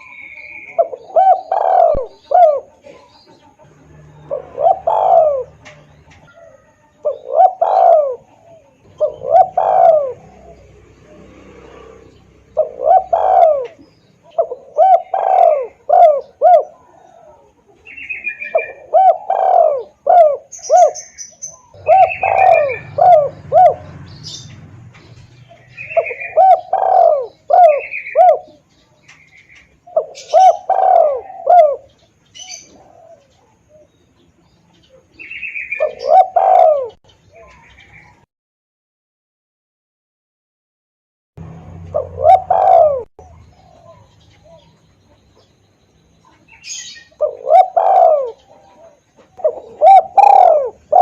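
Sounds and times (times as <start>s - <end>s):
dove cooing: 0.0s - 34.0s, 34.8s - 38.2s, 41.7s - 45.5s, 46.2s - 51.0s
small birds chirping: 0.0s - 38.3s, 41.4s - 51.0s.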